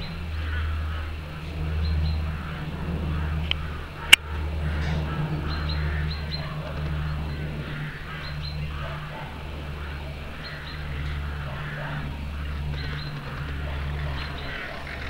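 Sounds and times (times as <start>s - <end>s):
birds chirping: 0.0s - 15.0s
softer lower bird calls: 0.0s - 15.0s
steady low hum: 0.0s - 15.0s.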